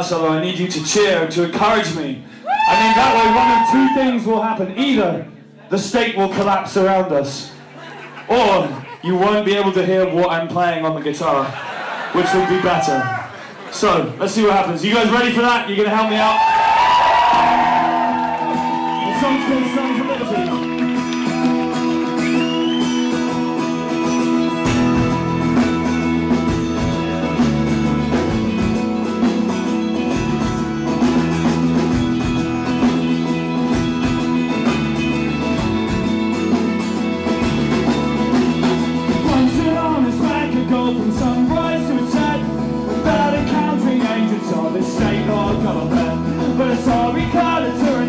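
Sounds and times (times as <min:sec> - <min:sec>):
live rock band playing: 0:00.0 - 0:10.6, 0:14.4 - 0:48.0.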